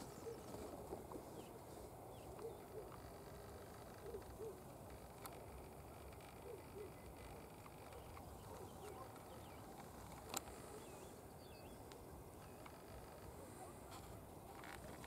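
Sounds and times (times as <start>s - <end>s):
distant bird chirps: 0.0s - 15.0s
low background hiss: 0.0s - 15.0s.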